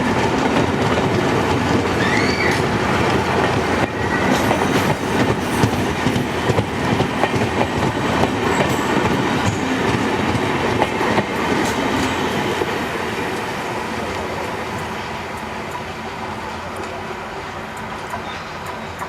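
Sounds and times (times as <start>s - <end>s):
diesel locomotive pulling train: 0.0s - 19.0s.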